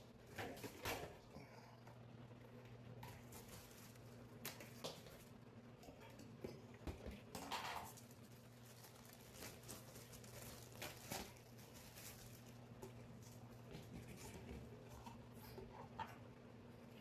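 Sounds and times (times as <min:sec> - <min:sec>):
low steady hum: 0:00.0 - 0:17.0
soft plastic rustles and clicks: 0:02.6 - 0:16.3.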